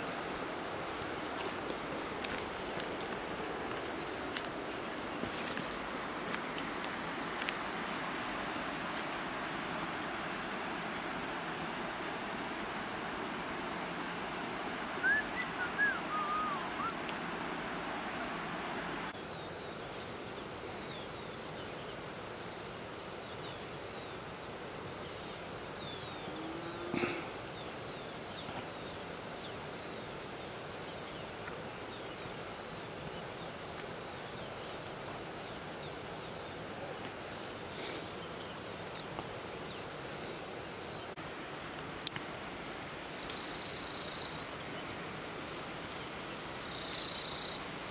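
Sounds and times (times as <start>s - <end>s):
birds chirping: 0.0s - 12.2s, 13.0s - 47.9s
steady background hiss: 0.0s - 47.9s.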